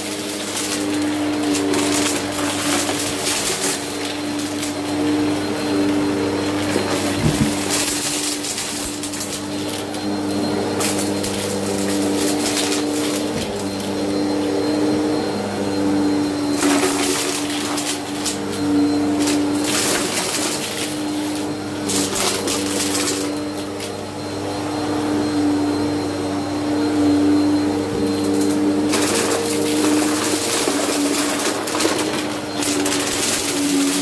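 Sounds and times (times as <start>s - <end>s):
vacuum cleaner running on carpet: 0.0s - 34.0s.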